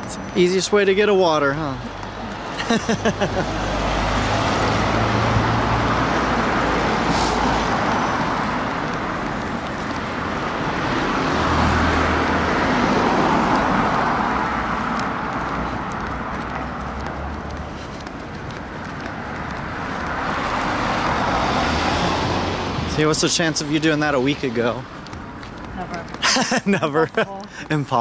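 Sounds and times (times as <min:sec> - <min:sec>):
cars passing: 0:00.0 - 0:28.0.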